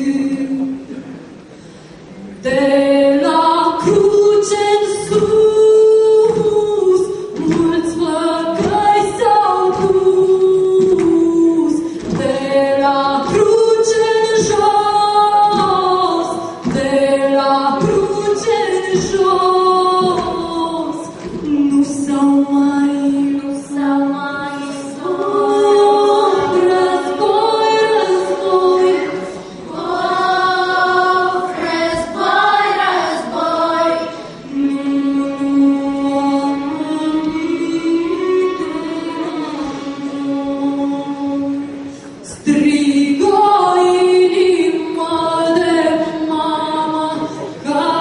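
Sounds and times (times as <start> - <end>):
woman singing: 0.0 - 0.8, 2.4 - 48.0
children's choir singing: 2.4 - 48.0.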